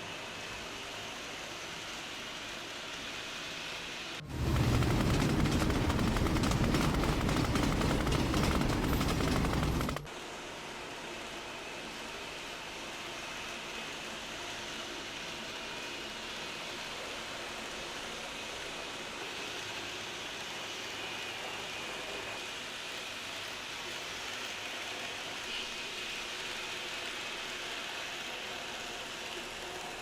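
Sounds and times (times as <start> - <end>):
faint high motor whine: 0.0 - 30.0
model train whirring on track: 0.0 - 30.0.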